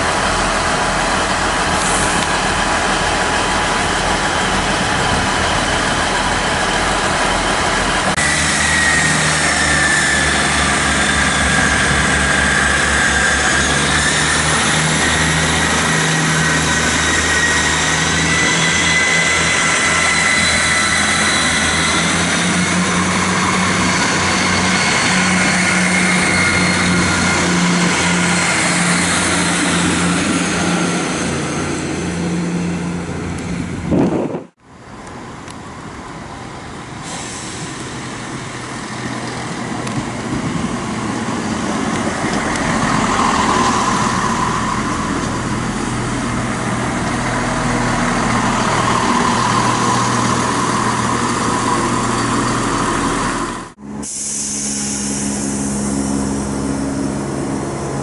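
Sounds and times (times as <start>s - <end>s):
diesel train engines running: 0.0s - 58.0s
rail noise: 0.0s - 58.0s.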